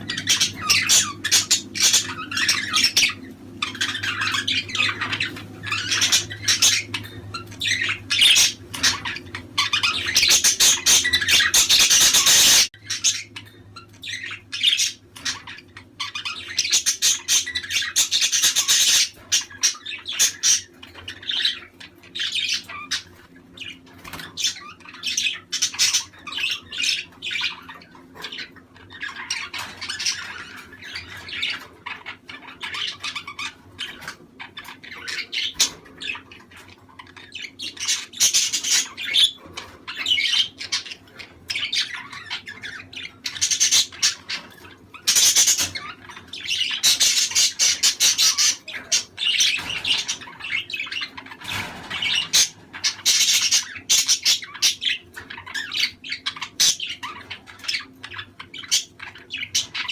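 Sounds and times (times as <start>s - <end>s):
budgerigars chattering and squawking: 0.0s - 59.9s.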